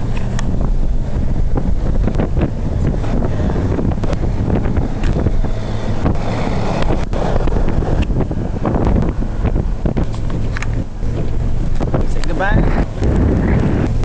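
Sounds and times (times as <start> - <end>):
car engine and road rumble: 0.0 - 14.0
wind noise on microphone: 0.0 - 14.0.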